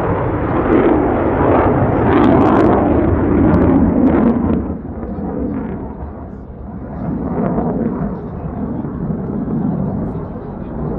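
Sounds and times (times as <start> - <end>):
fighter jet rumbling overhead: 0.0 - 10.9.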